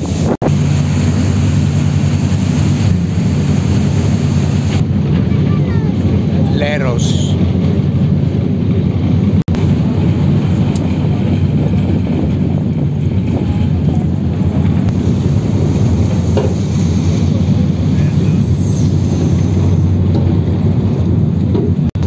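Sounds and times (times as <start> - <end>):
ferry engines rumbling: 0.0 - 22.0.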